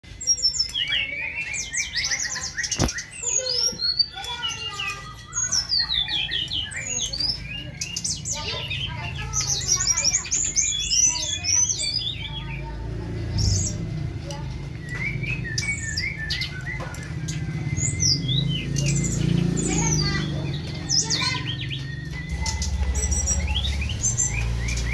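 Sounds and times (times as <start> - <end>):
songbird singing: 0.0 - 24.9.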